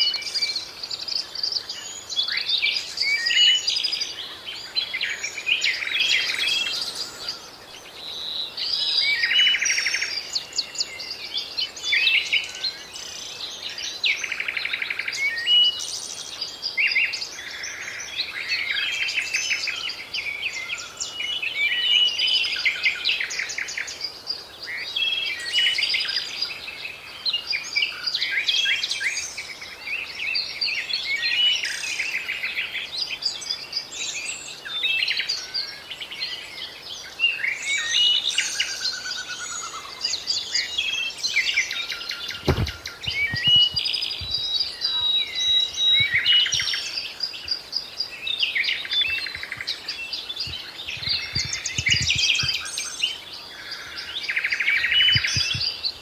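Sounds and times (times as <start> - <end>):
birds chirping and trilling: 0.0 - 56.0
faint steady hiss: 0.0 - 56.0.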